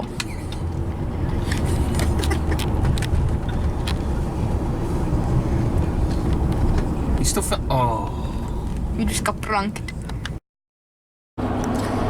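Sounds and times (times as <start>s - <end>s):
car engine and tyre rumble: 0.0s - 10.4s, 11.4s - 12.0s.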